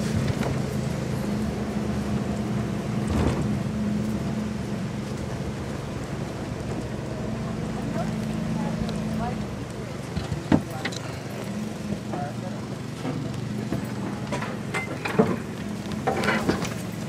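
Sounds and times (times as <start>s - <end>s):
vehicle engine driving: 0.0s - 17.0s.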